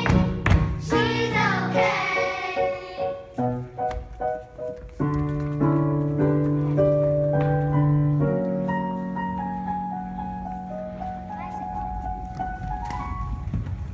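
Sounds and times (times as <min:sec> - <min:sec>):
piano chords and notes: 0:00.0 - 0:13.9.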